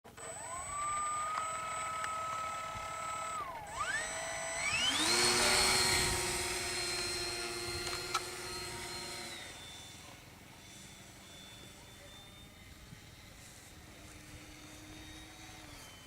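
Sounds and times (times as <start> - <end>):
light aircraft engine throttling up: 0.1 - 16.0.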